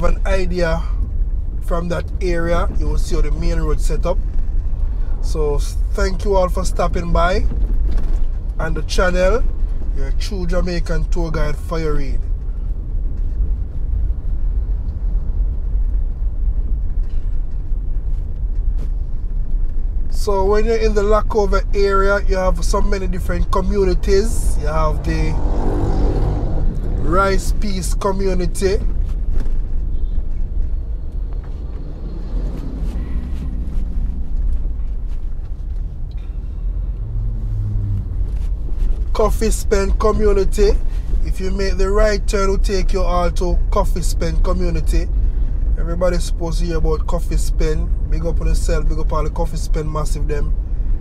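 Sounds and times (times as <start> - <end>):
vehicle engine and tyre noise: 0.0 - 51.0.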